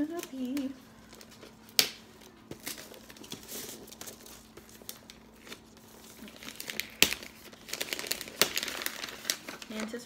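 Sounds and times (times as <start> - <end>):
wrapping paper crinkling and tearing: 0.0 - 10.0.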